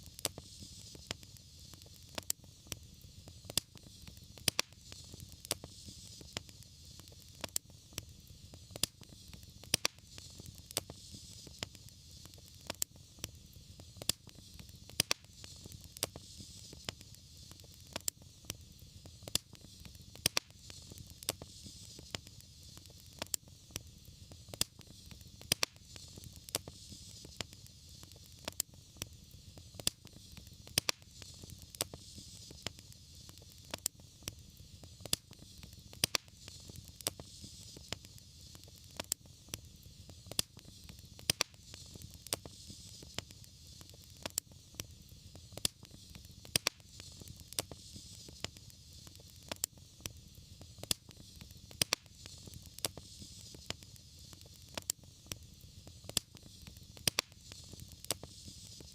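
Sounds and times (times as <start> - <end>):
low rumble of flame: 0.0 - 58.9
wood fire crackling and popping: 0.0 - 58.9.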